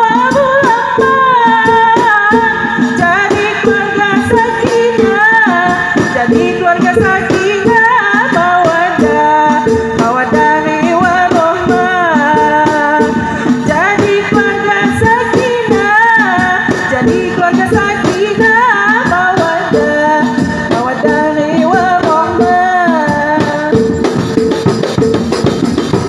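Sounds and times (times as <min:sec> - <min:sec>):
frame drums with jingles: 0:00.0 - 0:26.0.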